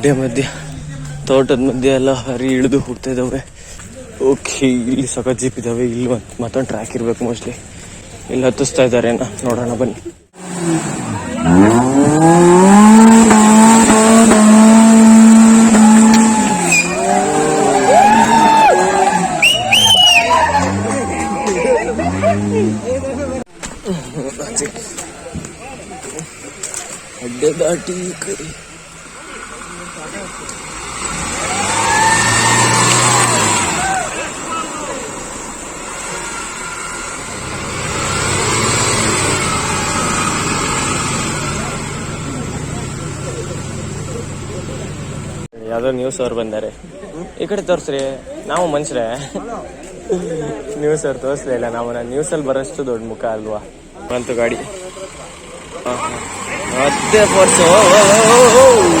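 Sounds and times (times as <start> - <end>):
off-road engine revving: 0.0 - 45.5, 54.0 - 59.0.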